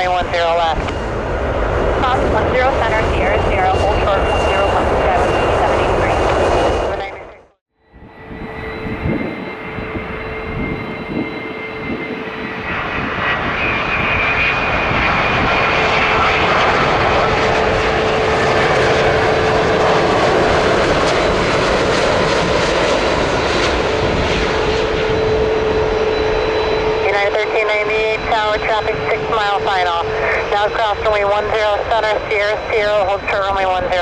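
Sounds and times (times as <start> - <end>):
jet engine rush: 0.0 - 34.0.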